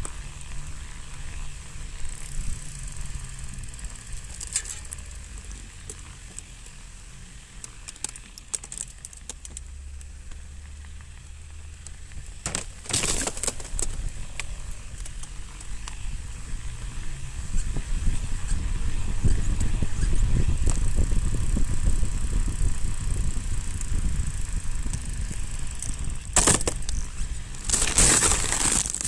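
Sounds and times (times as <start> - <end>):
bike clicks and rattles: 0.0 - 29.0
bike riding low rumble: 0.0 - 29.0.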